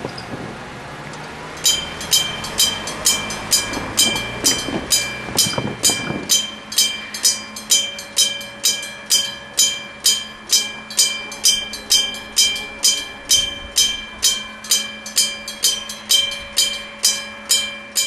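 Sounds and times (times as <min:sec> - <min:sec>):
level-crossing alarm clanging: 0:01.5 - 0:18.0.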